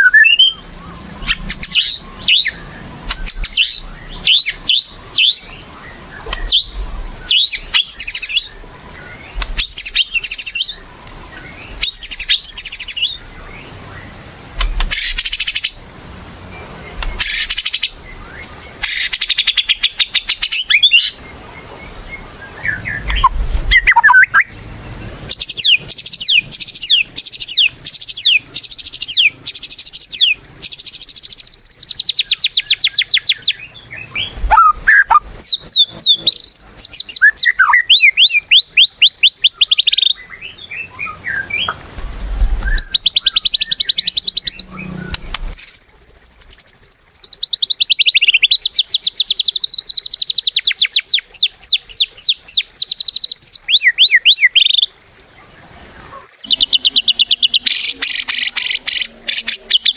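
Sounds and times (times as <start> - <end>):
bird singing whistles and trills: 0.0 - 15.8, 16.5 - 41.8, 42.6 - 55.0, 56.0 - 59.9.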